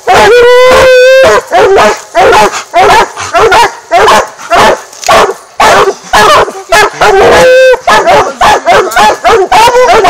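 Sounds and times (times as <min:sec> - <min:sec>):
dogs barking: 0:00.0 - 0:10.0.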